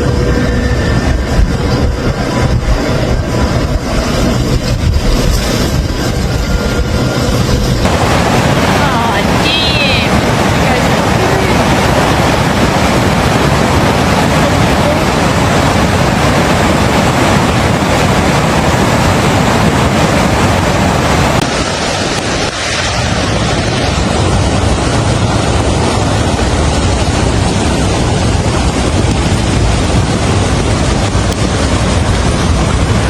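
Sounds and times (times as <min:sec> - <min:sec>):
floodwater rushing: 0:00.0 - 0:33.0
wind on microphone: 0:00.0 - 0:33.0.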